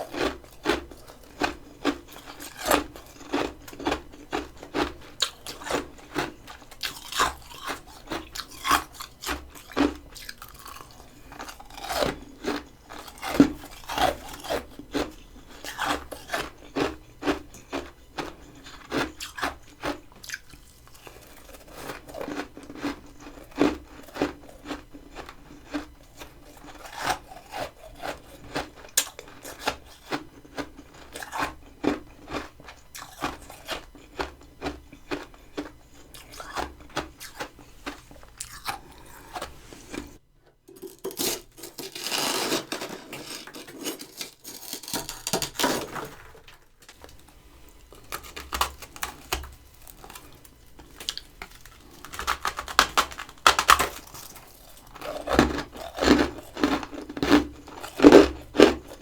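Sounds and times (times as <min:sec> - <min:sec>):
chewing crunchy frost: 0:00.0 - 0:59.0.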